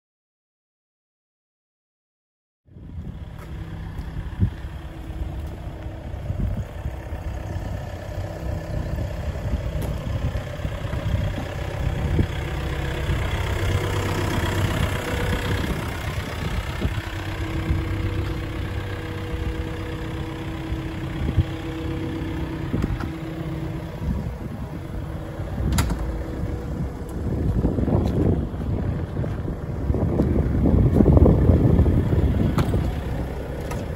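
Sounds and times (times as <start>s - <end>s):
excavator diesel engine idling: 2.7s - 33.9s.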